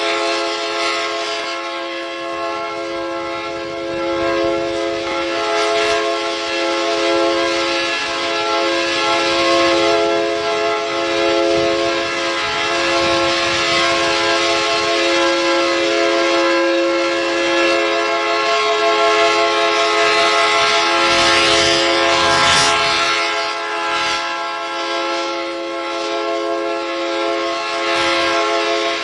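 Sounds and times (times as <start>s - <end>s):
moving train noise: 0.0s - 29.0s
train horn chord: 0.0s - 29.0s.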